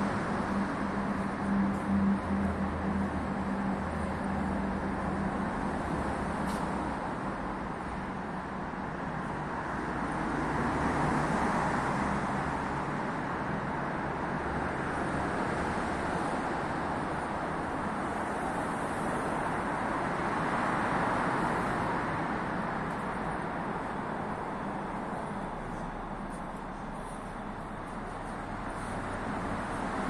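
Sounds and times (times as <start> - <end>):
rumble of vehicles: 0.0 - 30.0.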